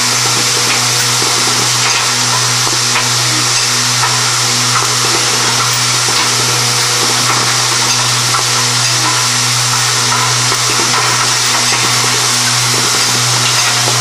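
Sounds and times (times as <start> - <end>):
constant hiss: 0.0 - 14.0
low electric buzz: 0.0 - 14.0.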